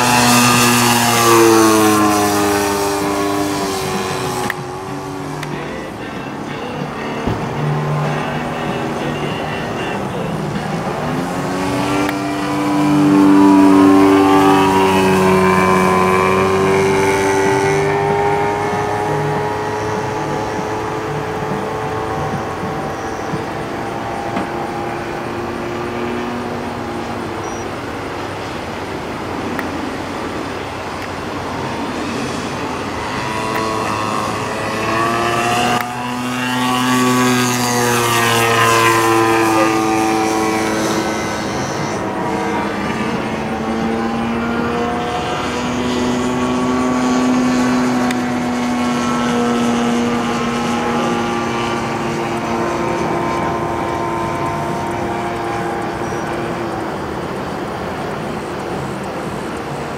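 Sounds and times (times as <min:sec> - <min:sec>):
model plane engine and propeller: 0:00.0 - 0:59.9.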